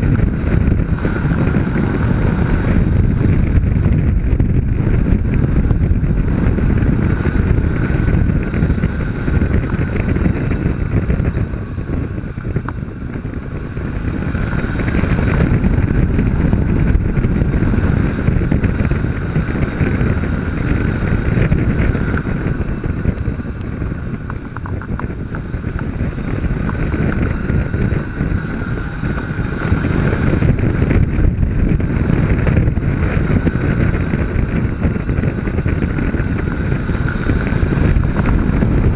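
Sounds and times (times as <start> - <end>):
motorcycle engine running at speed: 0.0 - 38.9
wind rush over microphone: 0.0 - 38.9.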